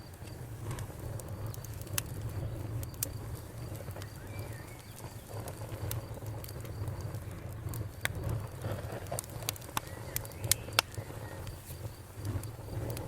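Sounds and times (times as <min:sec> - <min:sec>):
fire crackles and pops: 0:00.0 - 0:13.0
fire low rumble: 0:00.0 - 0:13.0.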